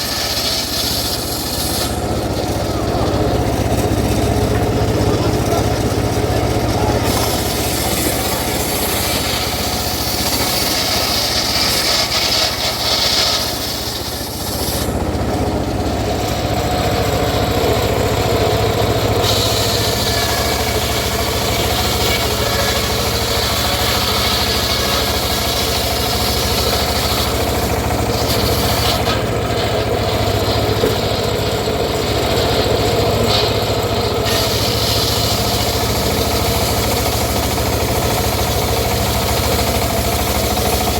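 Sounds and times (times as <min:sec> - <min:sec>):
saw blade rasping through wood: 0:00.0 - 0:40.9
saw engine drone: 0:00.0 - 0:40.9.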